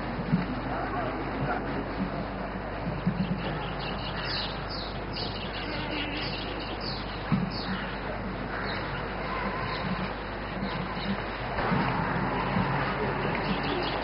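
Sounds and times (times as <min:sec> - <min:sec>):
steady hum and hiss: 0:00.0 - 0:14.0.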